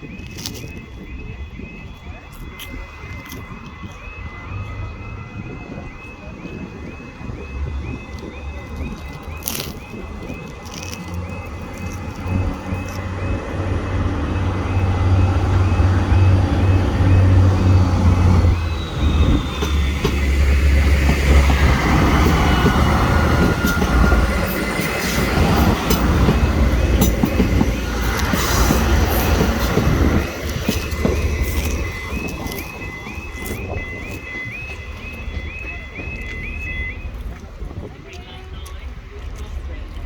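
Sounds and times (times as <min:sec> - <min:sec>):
diesel train passing: 0:00.0 - 0:40.0.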